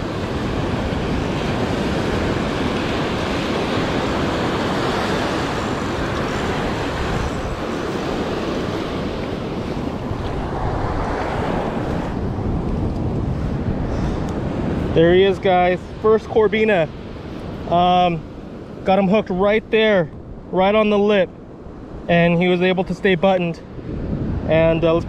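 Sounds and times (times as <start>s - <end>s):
wind on microphone: 0.0s - 18.8s, 23.6s - 25.0s
surf washing up beach: 0.0s - 25.0s.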